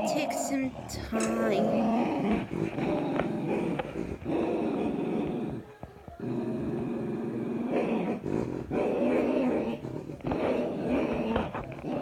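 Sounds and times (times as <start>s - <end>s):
dog growling: 0.0s - 12.0s.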